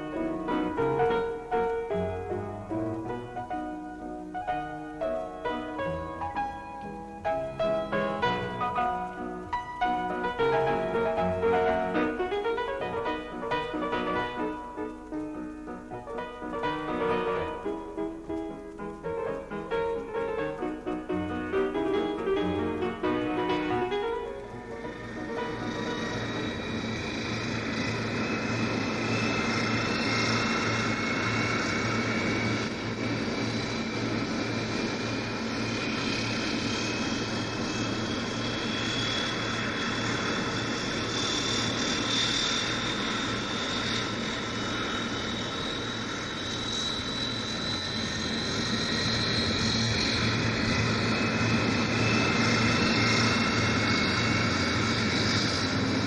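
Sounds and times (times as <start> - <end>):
turbine whine: 0.0 - 56.0
turboprop engines droning in cabin: 0.0 - 56.0.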